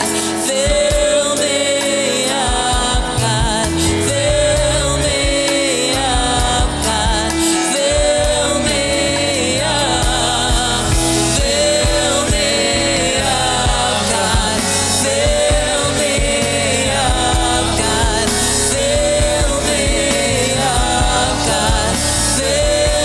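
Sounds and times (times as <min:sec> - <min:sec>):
band accompaniment: 0:00.0 - 0:23.0
person singing worship song: 0:00.0 - 0:23.0
steady drum beat: 0:00.0 - 0:23.0.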